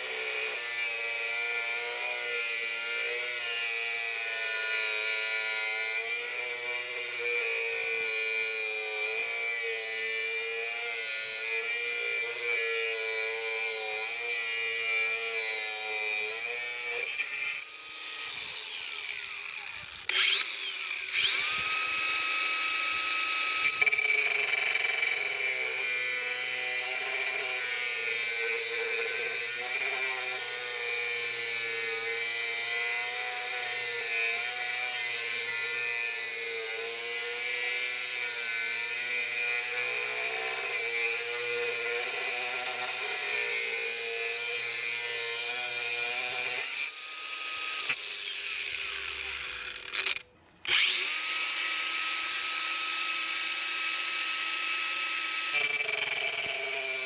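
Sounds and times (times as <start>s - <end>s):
angle grinder whining: 0.0s - 57.0s.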